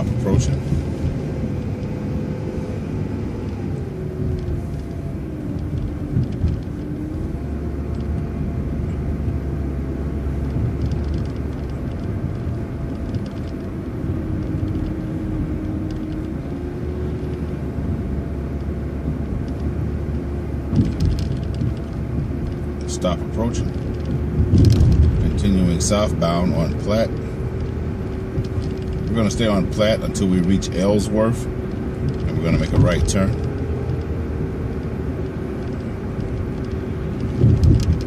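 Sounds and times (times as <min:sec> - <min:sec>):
bus engine rumble: 0:00.0 - 0:38.0.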